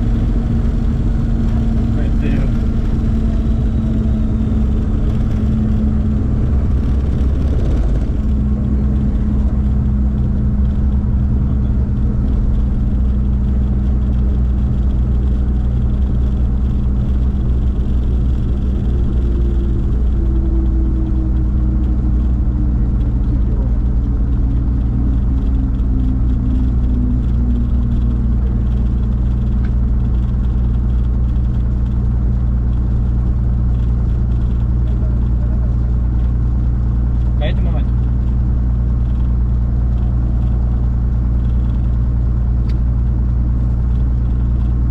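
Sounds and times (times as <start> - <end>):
propeller engine drone: 0.0 - 44.9.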